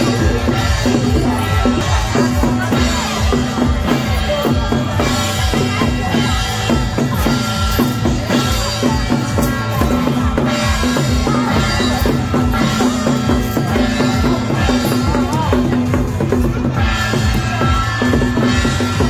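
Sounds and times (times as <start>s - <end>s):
drum-led percussion music: 0.0s - 19.0s.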